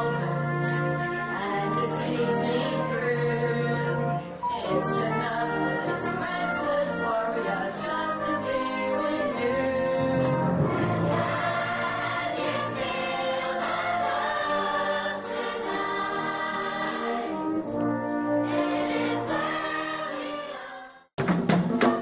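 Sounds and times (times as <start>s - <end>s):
brass band playing chords: 0.0s - 20.6s.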